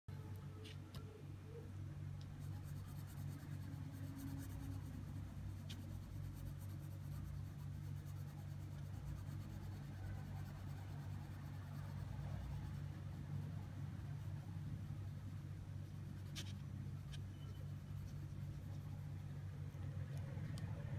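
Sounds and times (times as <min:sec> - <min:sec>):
steady low hum: 0:00.1 - 0:20.9
pencil scratching on paper: 0:02.3 - 0:19.3.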